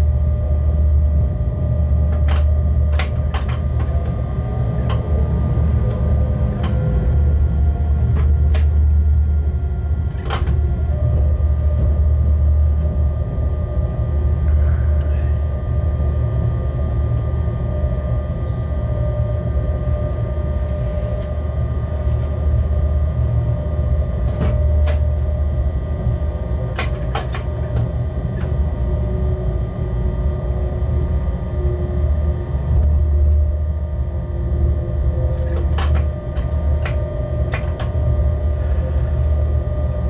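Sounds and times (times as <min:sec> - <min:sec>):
locomotive low rumble: 0:00.0 - 0:40.0
running gear whine: 0:00.0 - 0:40.0.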